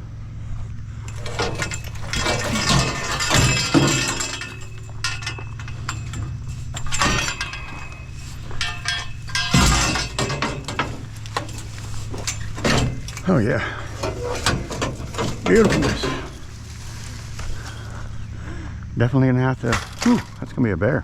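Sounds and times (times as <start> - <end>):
engine humming: 0.0 - 21.0
scrap metal clattering and crashing: 1.0 - 18.4, 19.5 - 20.5.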